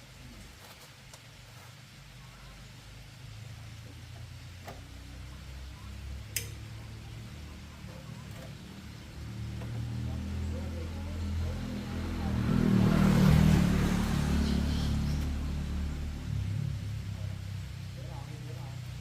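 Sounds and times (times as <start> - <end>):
vehicle engine running: 3.0 - 19.0.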